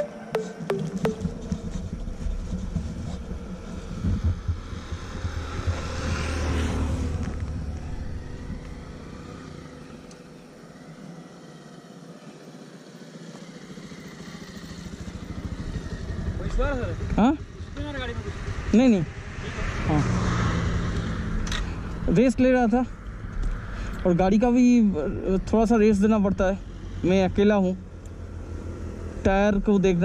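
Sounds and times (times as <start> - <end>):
highway traffic: 0.0 - 30.0
motorcycle engine approaching: 0.0 - 30.0
vehicle passing: 1.1 - 30.0.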